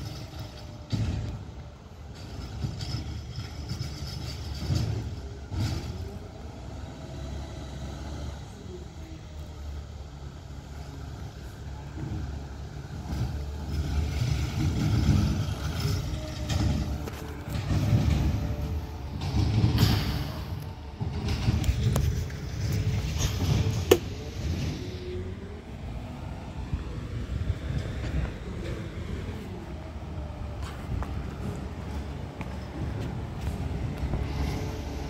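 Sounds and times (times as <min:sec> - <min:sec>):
garbage truck diesel engine rumble: 0:00.0 - 0:35.0.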